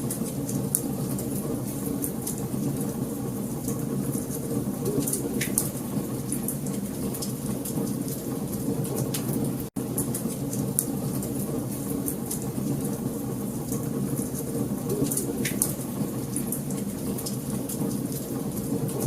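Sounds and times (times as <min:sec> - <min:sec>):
fire rumbling: 0:00.0 - 0:19.0.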